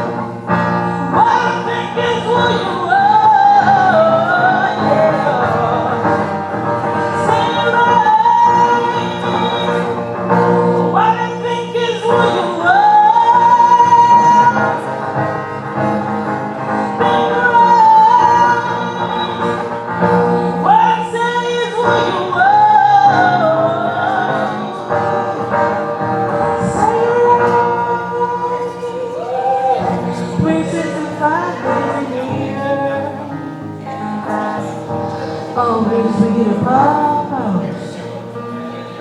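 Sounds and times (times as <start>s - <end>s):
person singing a melody: 0.0s - 39.0s.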